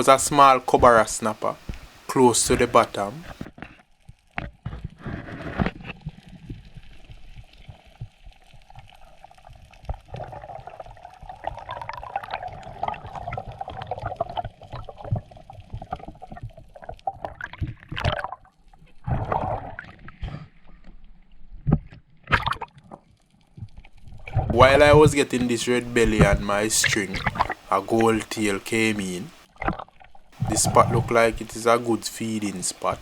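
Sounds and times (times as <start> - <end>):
water gurgling and sloshing: 0.0 - 33.0.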